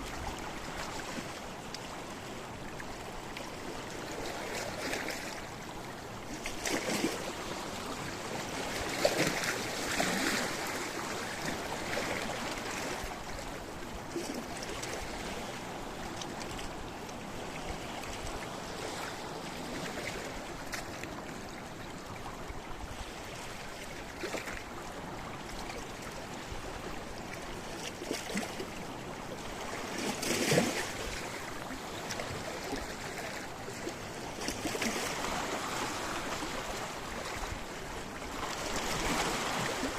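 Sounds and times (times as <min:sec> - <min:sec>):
sea waves against rocks: 0:00.0 - 0:39.9.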